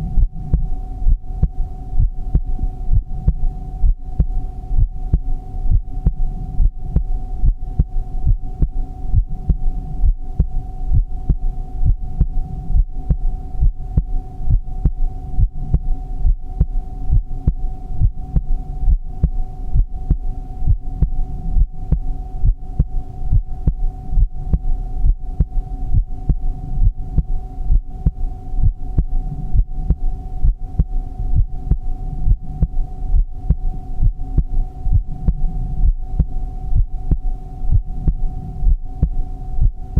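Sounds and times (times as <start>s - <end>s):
heartbeat: 0.0s - 39.9s
low hum: 0.0s - 39.9s.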